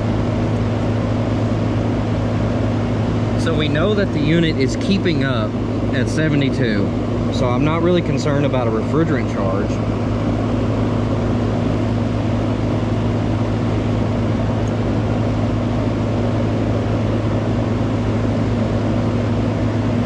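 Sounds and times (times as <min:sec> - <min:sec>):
compressor hum: 0:00.0 - 0:20.0
condenser fan rushing: 0:00.0 - 0:20.0.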